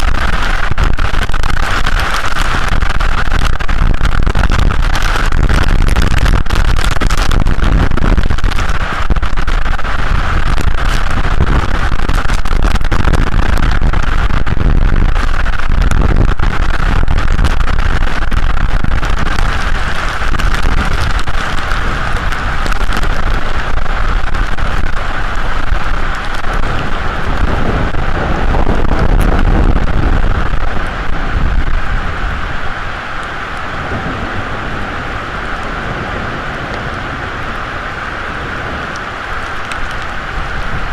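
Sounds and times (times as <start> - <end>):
rain: 0.0 - 40.9
storm wind buffeting microphone: 0.0 - 40.9.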